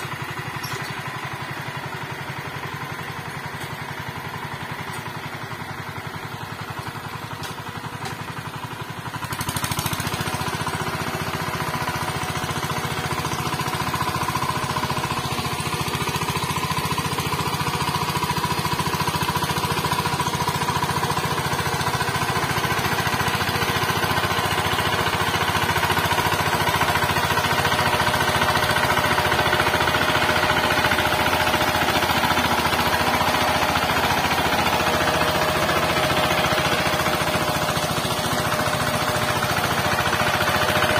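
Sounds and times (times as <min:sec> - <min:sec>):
tiller diesel engine knocking: 0:00.0 - 0:40.9.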